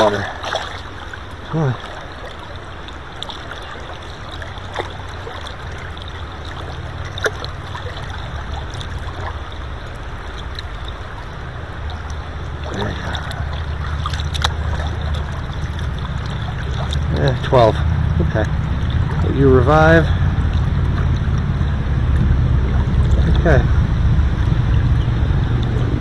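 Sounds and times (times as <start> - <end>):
small sharp splashes: 0.0 - 25.9
river water rushing: 0.0 - 26.0.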